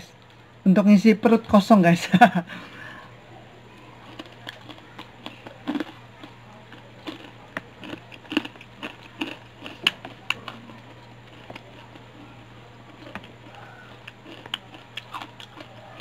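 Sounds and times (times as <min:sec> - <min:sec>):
chewing crispy fried chicken: 0:02.5 - 0:16.0.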